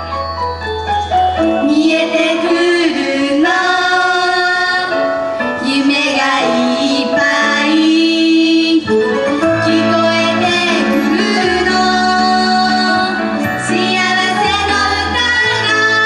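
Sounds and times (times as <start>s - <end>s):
backing music: 0.0s - 16.0s
women singing into microphones: 1.6s - 16.0s.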